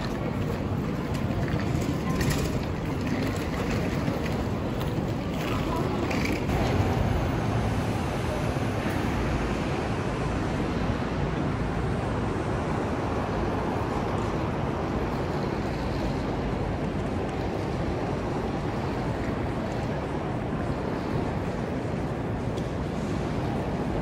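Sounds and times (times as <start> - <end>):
low rumbling outdoor background noise: 0.0 - 24.0.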